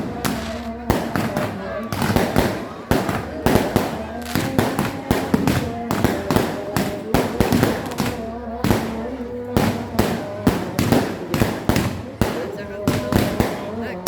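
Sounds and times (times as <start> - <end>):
fireworks and firecrackers banging: 0.0 - 14.0.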